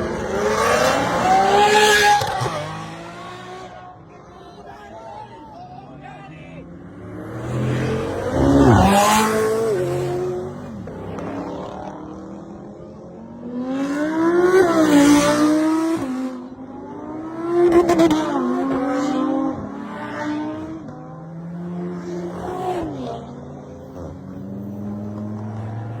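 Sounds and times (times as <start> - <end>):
sports cars revving past: 0.0 - 4.1, 6.6 - 26.0.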